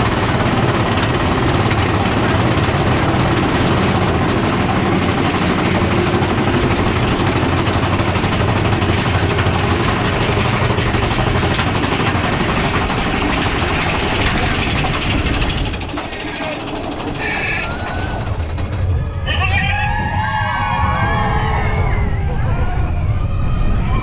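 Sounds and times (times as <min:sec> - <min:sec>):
roller coaster train rumbling and rattling: 0:00.0 - 0:24.0.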